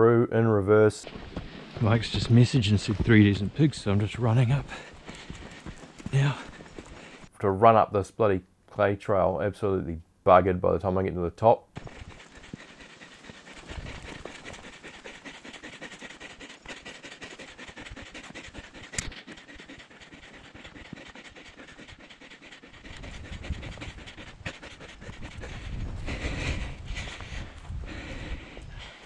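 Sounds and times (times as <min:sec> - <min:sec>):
man panting hard: 0:01.0 - 0:07.3, 0:11.8 - 0:29.0.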